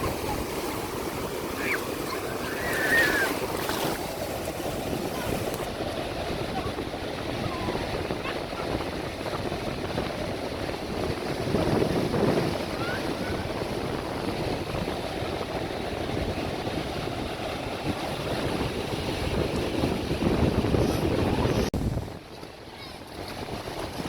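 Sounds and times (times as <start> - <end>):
sea waves washing in: 0.0 - 22.3
wind on microphone: 0.0 - 24.0.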